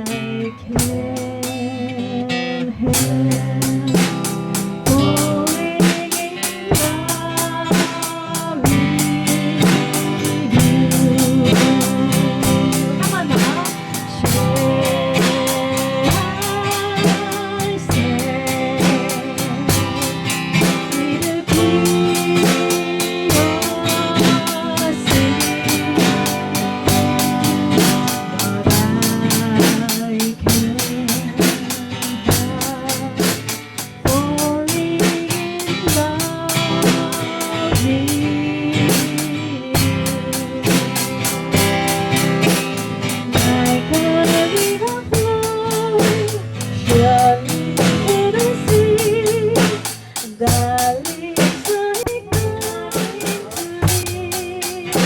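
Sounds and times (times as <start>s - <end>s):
guitar: 0.0s - 55.0s
drum beat: 2.9s - 55.0s.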